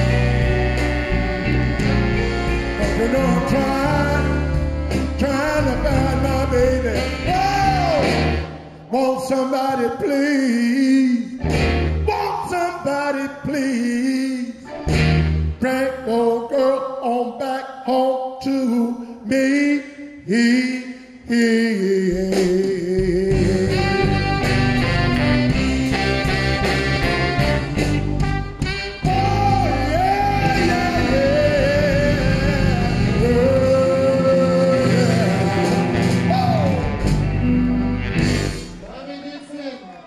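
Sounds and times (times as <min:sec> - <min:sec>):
man singing: 0:00.0 - 0:11.4, 0:12.0 - 0:14.7, 0:15.6 - 0:25.3, 0:28.7 - 0:37.1
slow blues band playing: 0:00.0 - 0:16.3, 0:21.8 - 0:38.9.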